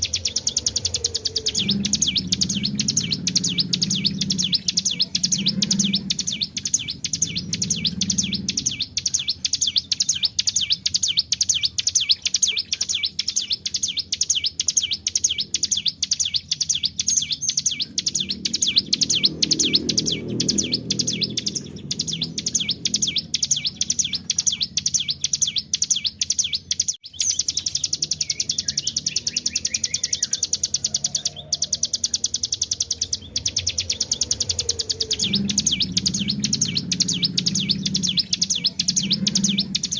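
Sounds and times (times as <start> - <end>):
bird singing a fast trill: 0.0 - 39.9.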